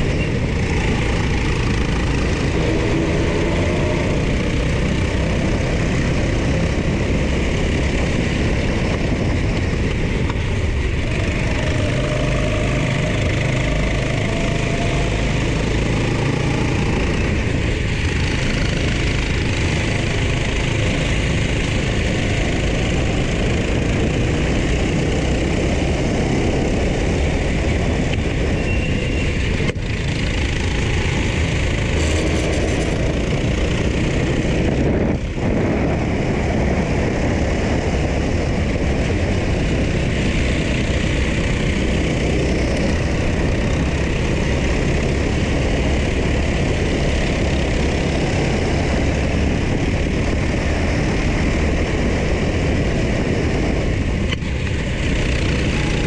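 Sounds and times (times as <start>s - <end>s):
go-kart engine running hard: 0.0s - 56.0s
wind rush on microphone: 0.0s - 56.0s.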